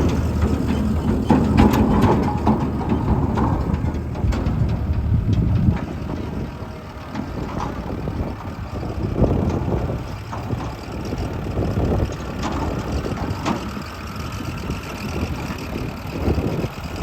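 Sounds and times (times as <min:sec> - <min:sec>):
construction machinery engine running: 0:00.0 - 0:17.0.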